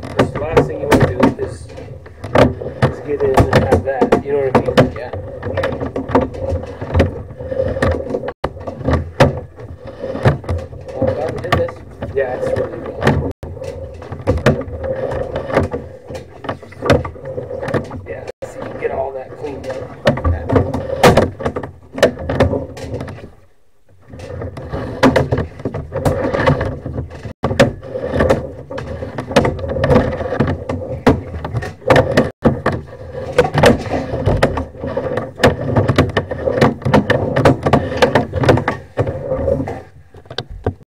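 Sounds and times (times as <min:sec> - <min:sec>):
cable clattering and scraping in pipe: 0:00.0 - 0:40.8.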